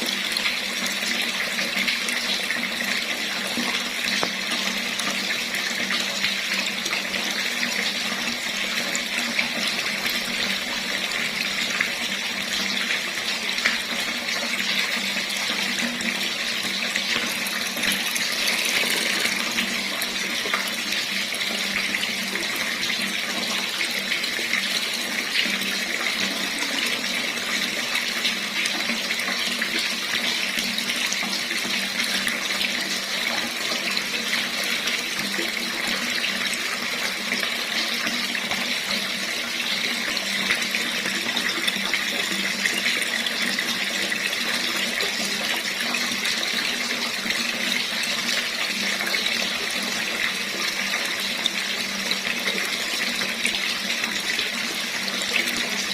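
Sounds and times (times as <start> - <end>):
water running from a tap: 0.0 - 55.9.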